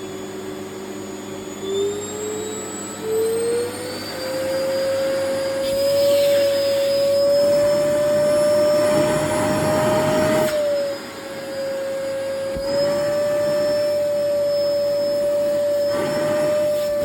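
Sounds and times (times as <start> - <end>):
vacuum cleaner sucking at clothing: 0.0 - 17.0.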